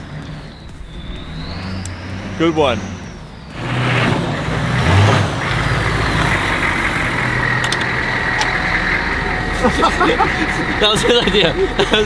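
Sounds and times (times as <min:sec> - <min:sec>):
steady high whine: 0:00.0 - 0:12.0
truck engine low drone: 0:00.0 - 0:12.0.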